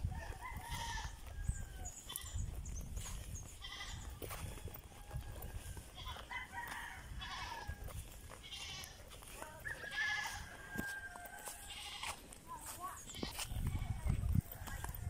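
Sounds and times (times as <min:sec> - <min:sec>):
farm animals calling: 0:00.0 - 0:15.0.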